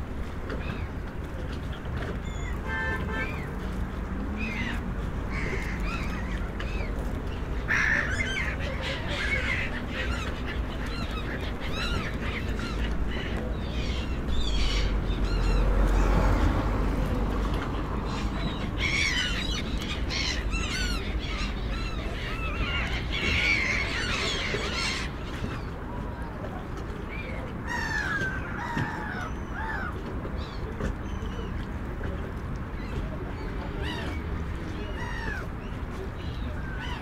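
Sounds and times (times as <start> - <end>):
gulls calling: 0.5 - 31.7, 32.7 - 37.0.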